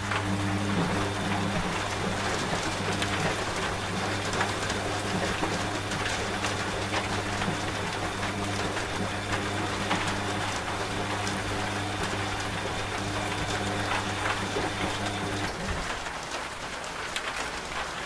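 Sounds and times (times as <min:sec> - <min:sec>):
washing machine humming: 0:00.0 - 0:17.8
rain falling: 0:00.0 - 0:18.0.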